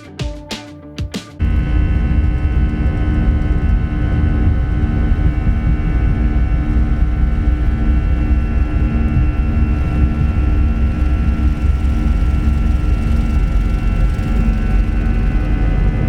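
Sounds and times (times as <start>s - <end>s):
faint whining tones: 1.4s - 16.0s
jet engines and airflow rumble: 1.4s - 16.0s.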